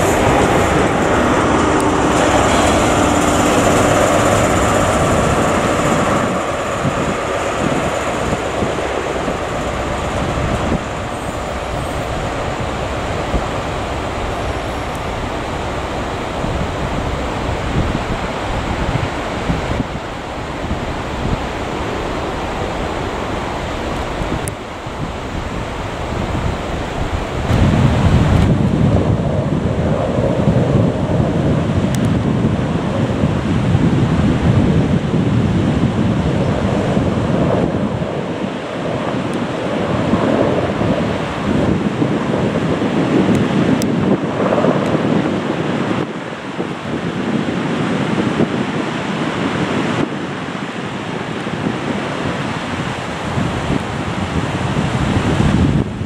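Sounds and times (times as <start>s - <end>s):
train engine rumble: 0.0s - 47.8s
wind buffeting microphone: 0.0s - 56.0s.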